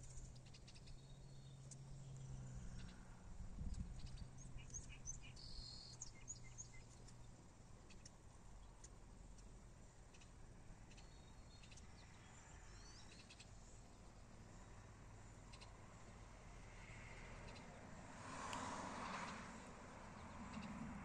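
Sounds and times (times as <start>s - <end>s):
small birds chirping: 0.0s - 17.8s, 19.1s - 21.0s.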